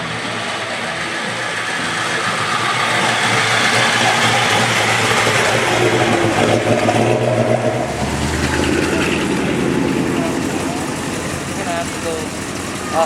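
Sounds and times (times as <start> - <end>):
car engine running: 0.0 - 13.0
deep low rumble: 0.0 - 13.0.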